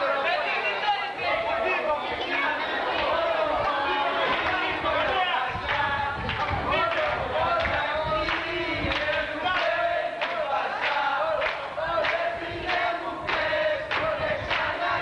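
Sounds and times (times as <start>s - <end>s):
group singing and shouting: 0.0s - 15.0s
rhythmic hand-clapping: 0.4s - 15.0s.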